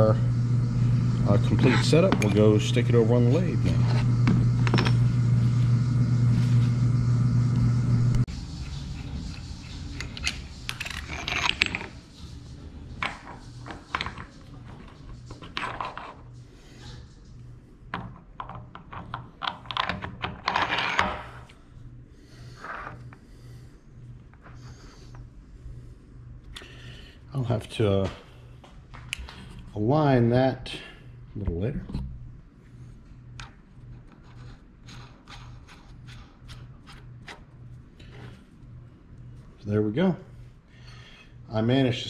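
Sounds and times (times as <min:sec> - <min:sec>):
steady machine hum: 0:00.0 - 0:42.0.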